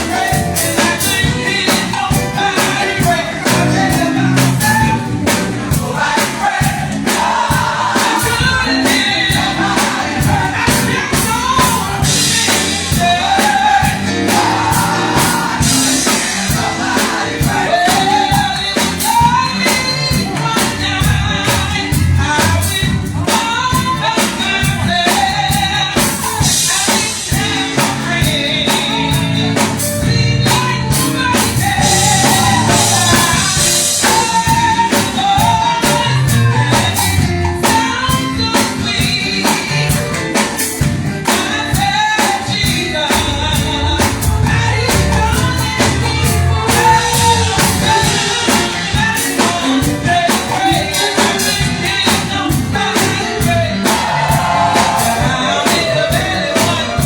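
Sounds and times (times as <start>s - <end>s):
band playing: 0.0s - 57.0s
person singing gospel: 0.0s - 57.0s
steady drum beat: 0.0s - 57.0s.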